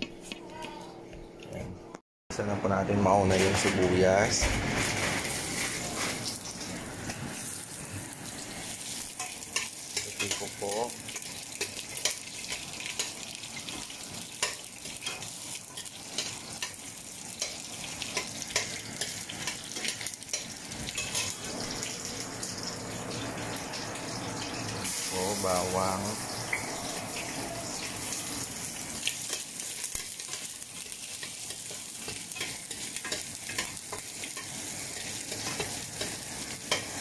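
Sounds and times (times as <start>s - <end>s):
onion sizzling in hot oil: 4.1s - 37.0s.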